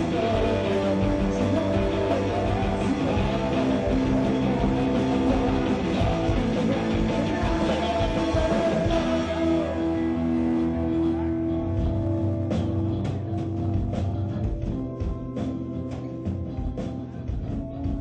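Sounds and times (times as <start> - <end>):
rock music with guitar: 0.0 - 18.0.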